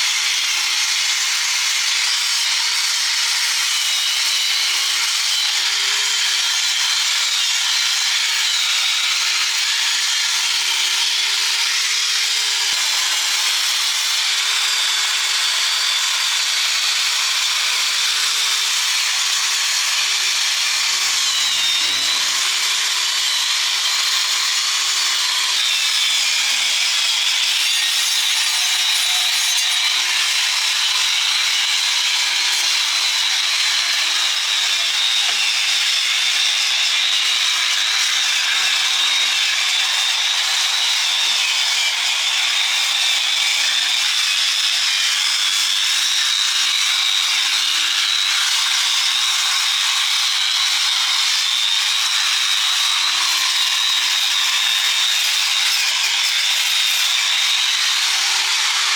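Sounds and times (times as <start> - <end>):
angle grinder on steel: 0.0 - 58.9.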